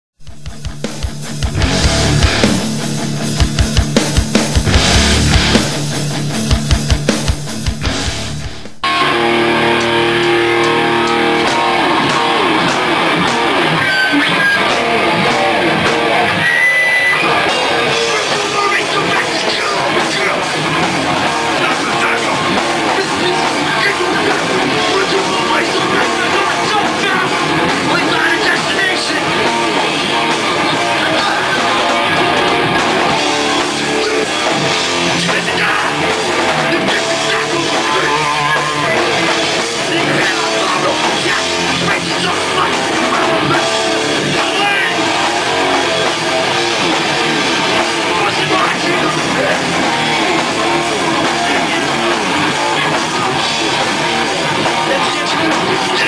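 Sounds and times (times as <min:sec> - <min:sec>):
electric guitars: 0:00.2 - 0:56.0
punk band playing live: 0:00.2 - 0:56.0.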